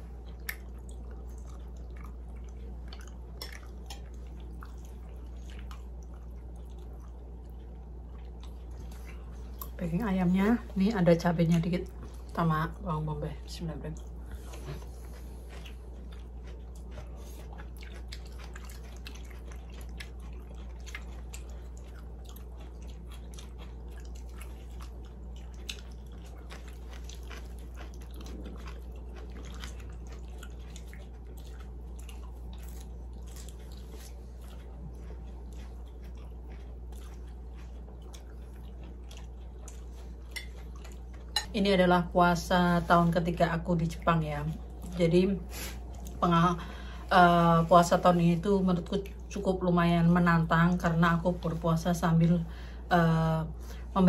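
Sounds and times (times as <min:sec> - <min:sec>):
people chewing: 0:00.0 - 0:43.3, 0:43.9 - 0:49.5
steady low hum: 0:00.0 - 0:54.0.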